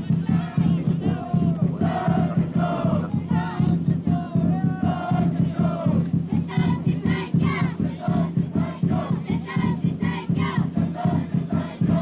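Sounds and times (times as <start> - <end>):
crowd chanting and singing: 0.0 - 12.0.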